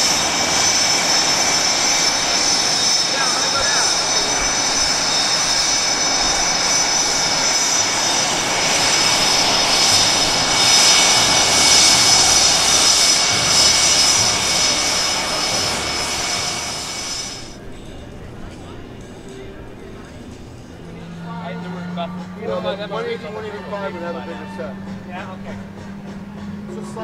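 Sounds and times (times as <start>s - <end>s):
aircraft engine whine: 0.0s - 27.0s.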